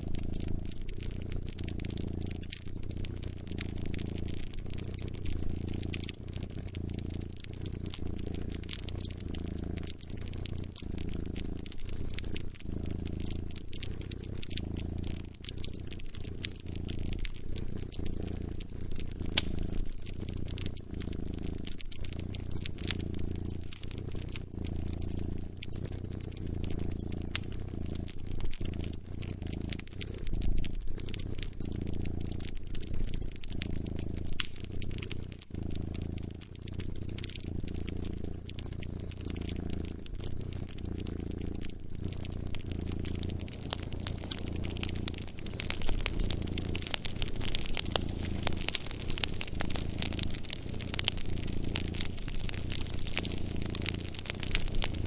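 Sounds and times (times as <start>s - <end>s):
cat purring: 0.0s - 55.0s
wood fire crackling: 0.0s - 55.0s.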